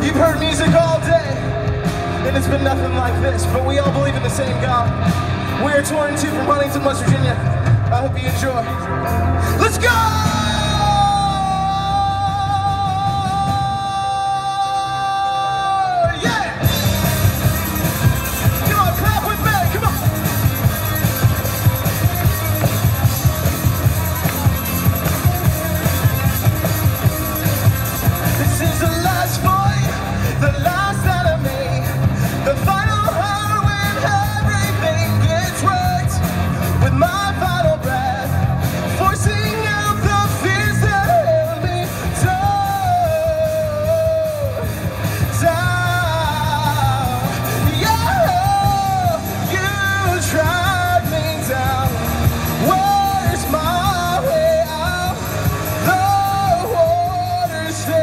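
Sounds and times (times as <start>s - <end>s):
rock band playing: 0.0s - 58.0s
person singing: 8.3s - 58.0s.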